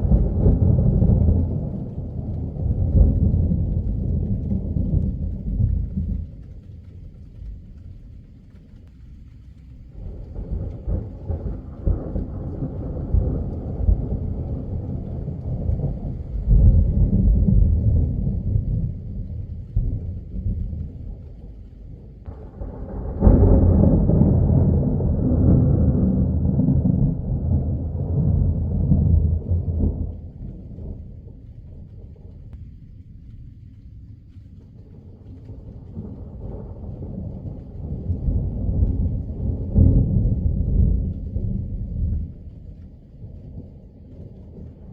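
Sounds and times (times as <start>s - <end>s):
thunder rolling: 0.0s - 44.9s.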